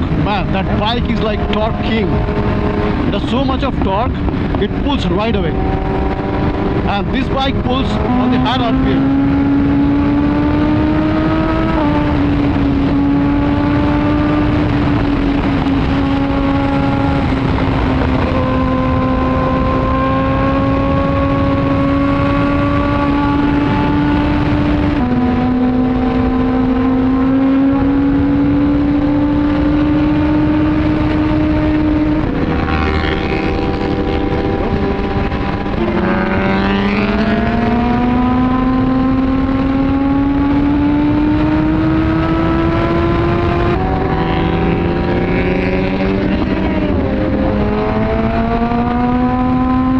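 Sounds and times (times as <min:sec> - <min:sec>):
motorcycle engine at high revs: 0:00.0 - 0:49.9
wind rush on microphone: 0:00.0 - 0:49.9.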